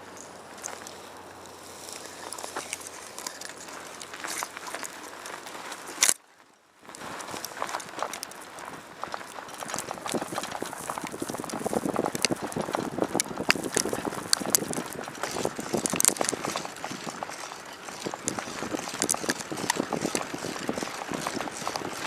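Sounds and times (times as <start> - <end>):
footsteps crunching on loose ground: 0.0 - 22.0.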